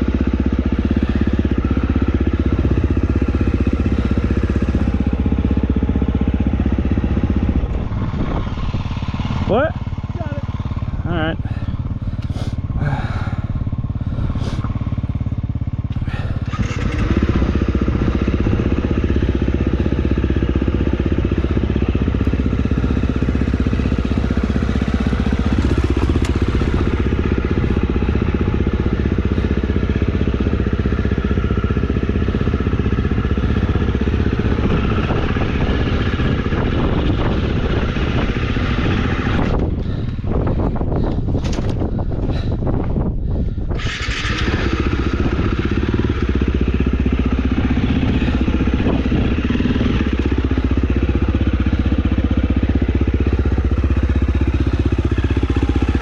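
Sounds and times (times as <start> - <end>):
dirt bike engine revving: 0.0 - 40.1, 43.8 - 56.0.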